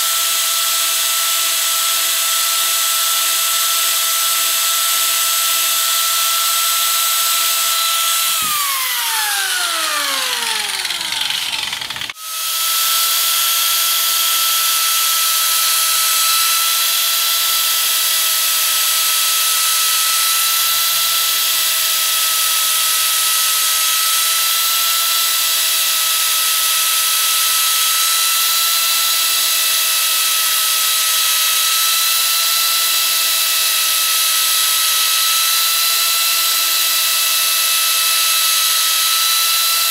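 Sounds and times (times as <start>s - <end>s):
carver cutting grooves in wood: 0.0s - 39.9s
power carver motor whining: 0.0s - 39.9s.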